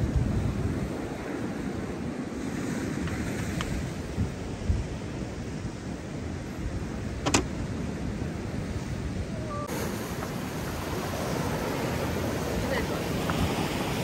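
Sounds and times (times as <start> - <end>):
surf washing against rocks: 0.0 - 14.0
wind buffeting microphone: 0.0 - 14.0.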